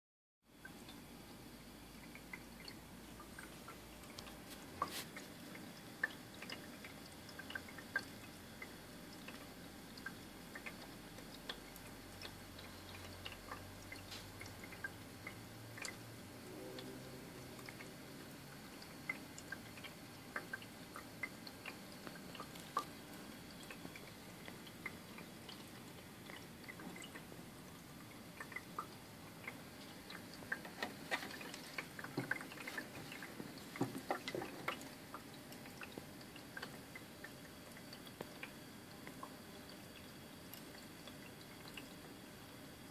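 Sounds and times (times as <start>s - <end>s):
faint steady hiss: 0.5s - 42.9s
water dripping and plinking: 0.6s - 42.8s.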